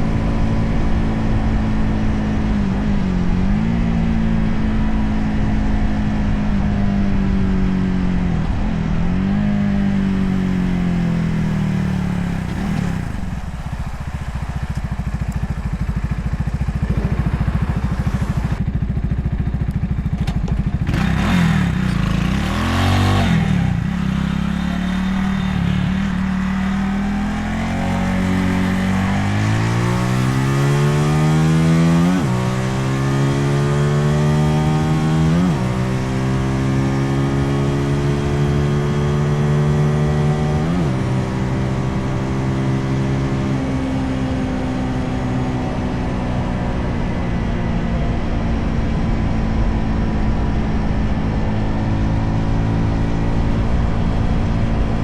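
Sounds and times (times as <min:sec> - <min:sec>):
motorcycle engine shifting gears: 0:00.0 - 0:55.0
road and wind noise: 0:00.0 - 0:55.0.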